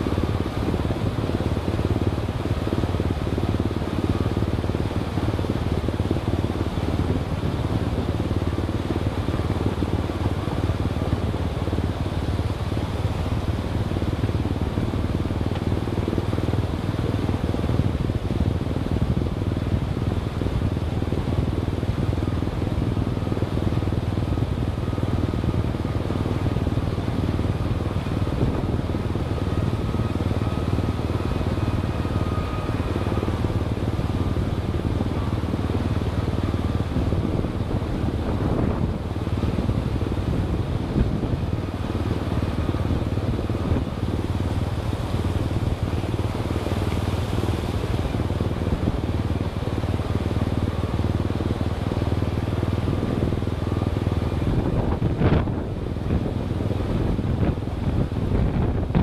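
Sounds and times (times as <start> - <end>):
faint steady whine: 0.0 - 59.0
vehicle engine and road noise: 0.0 - 59.0.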